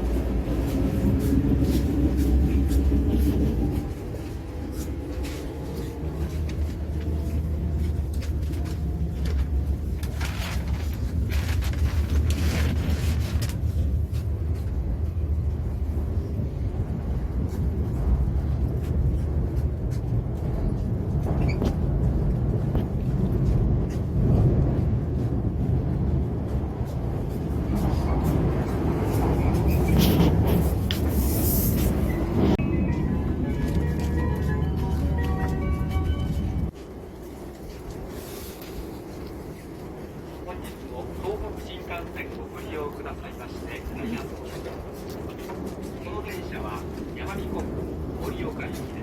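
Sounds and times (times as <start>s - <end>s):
train running low rumble: 0.0s - 49.0s.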